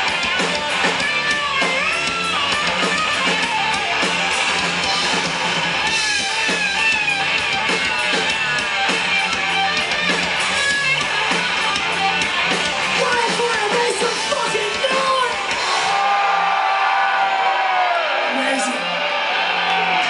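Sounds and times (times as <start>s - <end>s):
electric lead guitar: 0.0s - 20.0s
live rock band playing: 0.0s - 20.0s.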